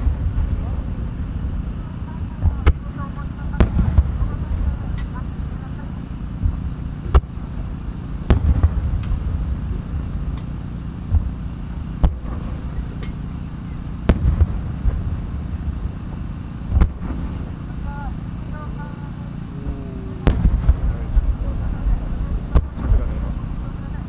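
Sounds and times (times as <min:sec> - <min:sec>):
fireworks booming: 0:00.0 - 0:18.4, 0:19.3 - 0:23.9
low rumble: 0:00.0 - 0:24.0.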